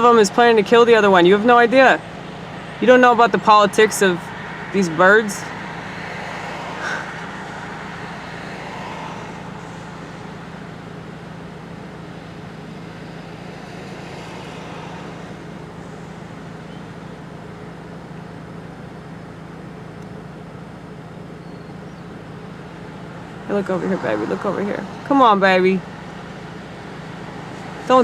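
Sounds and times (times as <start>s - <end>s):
motor vehicle hum and rushing: 0.0s - 28.0s.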